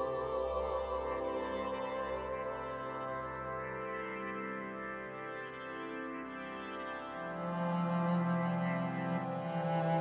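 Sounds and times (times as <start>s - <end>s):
slow instrumental background music: 0.0s - 10.0s.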